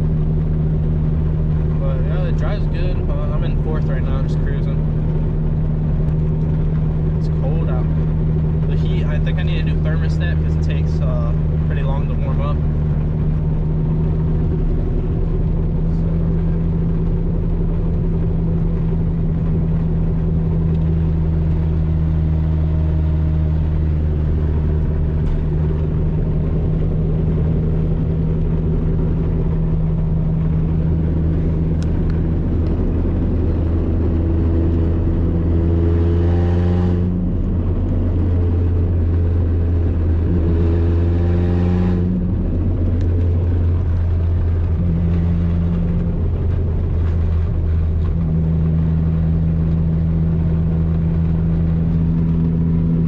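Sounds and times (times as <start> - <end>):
car engine cruising: 0.0 - 53.0
road noise: 0.0 - 53.0.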